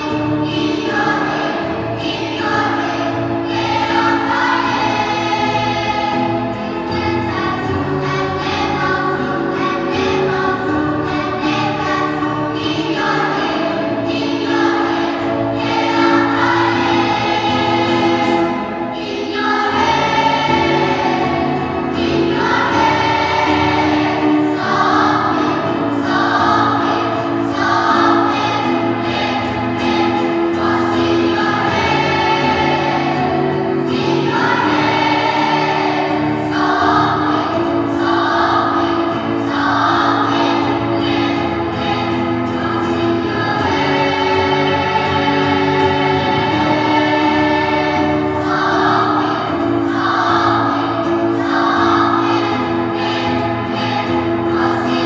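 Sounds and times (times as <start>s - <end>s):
choir singing in parts: 0.0s - 55.0s.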